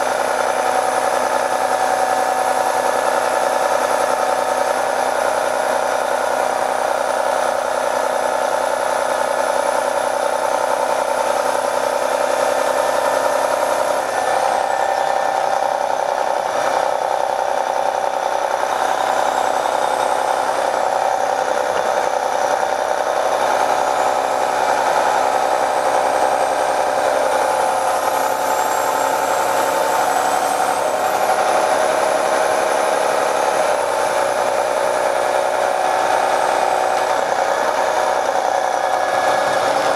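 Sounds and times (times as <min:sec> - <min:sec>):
bus diesel engine running: 0:00.0 - 0:39.9
high engine whine: 0:00.0 - 0:39.9.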